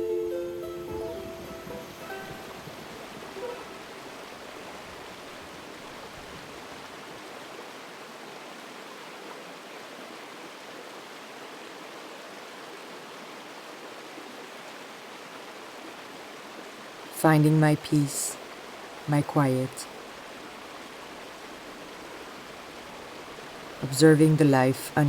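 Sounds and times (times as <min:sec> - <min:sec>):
flowing water rushing: 0:00.9 - 0:25.0.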